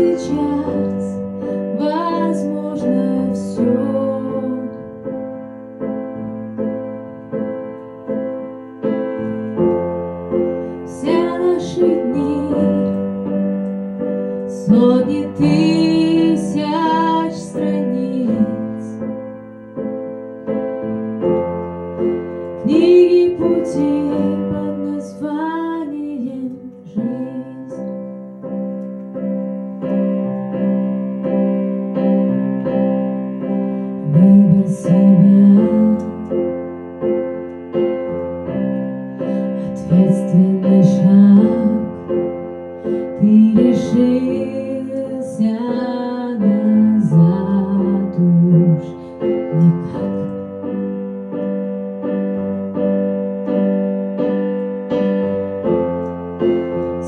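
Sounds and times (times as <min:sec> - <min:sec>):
piano chords: 0:00.0 - 0:57.0.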